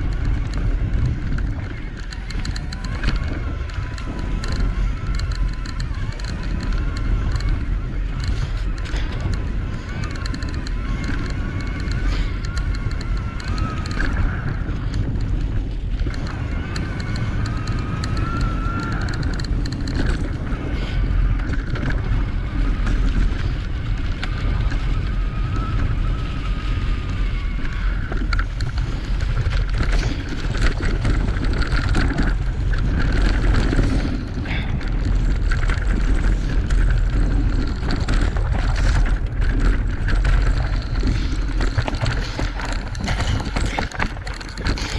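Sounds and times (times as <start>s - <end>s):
bike rattling over ground: 0.0s - 44.9s
electric motor whine: 0.0s - 44.9s
wind buffeting microphone: 0.0s - 44.9s.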